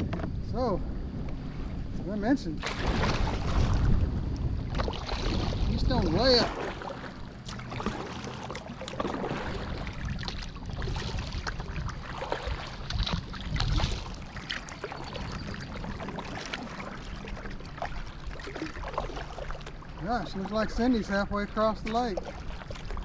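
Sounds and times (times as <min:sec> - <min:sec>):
low steady rumble: 0:00.0 - 0:23.0
paddle splashing in water: 0:02.6 - 0:04.0, 0:04.7 - 0:23.0.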